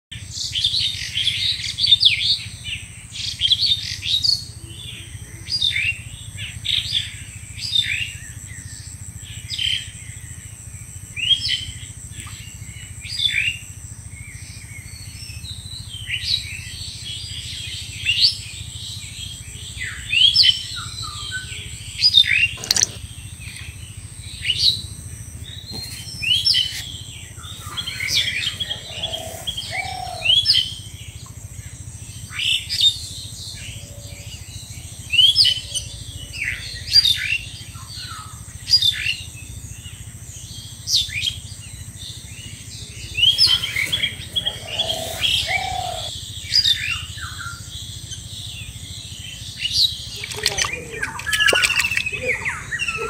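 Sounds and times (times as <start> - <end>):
wild birds chirping: 0.3 - 53.0.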